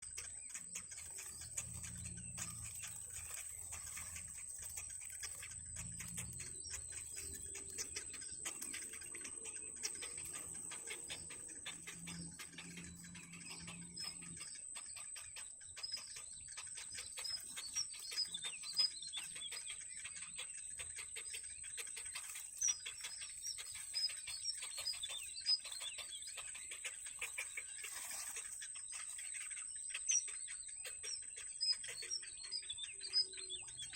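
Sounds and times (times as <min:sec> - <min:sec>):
nestling birds begging chirps: 0:00.0 - 0:33.9.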